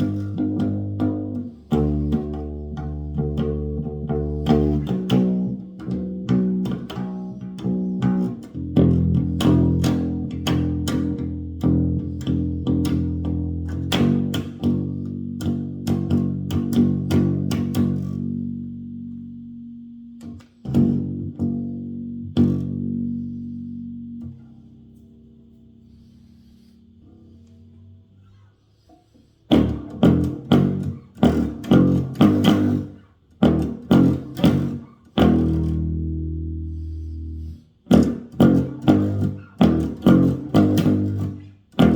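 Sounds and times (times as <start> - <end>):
electric bass guitar notes: 0.0 - 28.8, 29.4 - 41.9.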